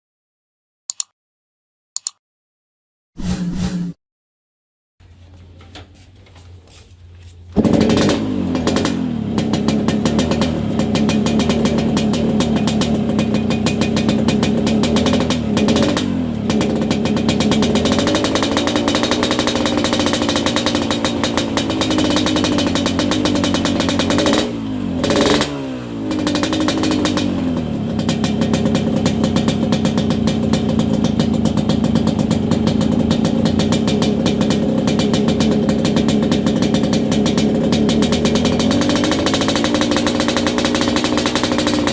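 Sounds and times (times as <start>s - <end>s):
two-stroke motorcycle engine revving: 7.6s - 41.9s.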